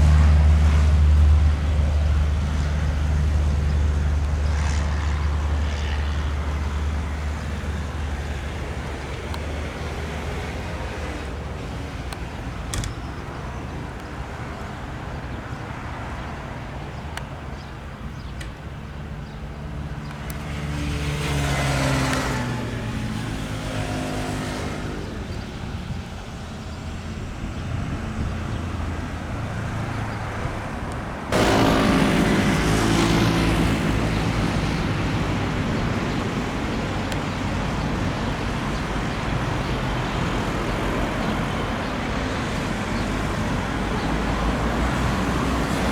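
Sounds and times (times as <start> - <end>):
propeller plane passing by: 0.0 - 45.9.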